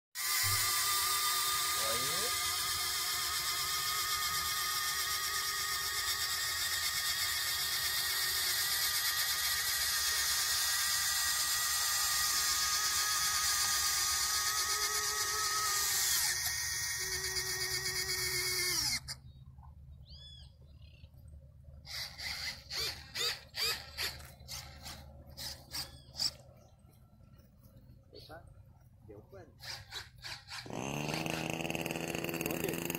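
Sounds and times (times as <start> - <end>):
short motor bursts: 0.2 - 19.3, 21.8 - 26.4, 29.5 - 32.9
small gear motors whining: 0.2 - 19.3, 21.8 - 26.6, 29.6 - 32.9.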